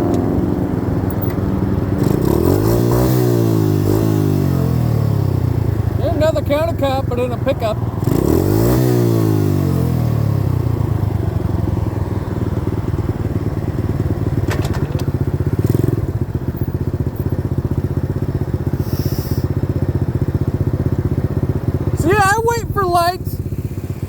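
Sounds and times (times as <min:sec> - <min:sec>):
dirt bike engine: 0:00.0 - 0:24.0.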